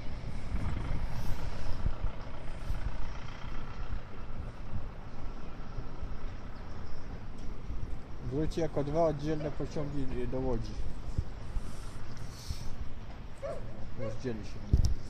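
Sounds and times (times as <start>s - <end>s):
train rumbling: 0.0s - 14.1s.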